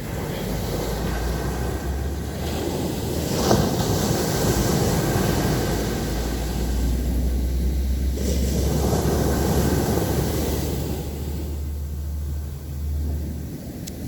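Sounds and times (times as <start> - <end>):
waves breaking on a beach: 0.0 - 14.0
wind rumbling on microphone: 0.0 - 14.0.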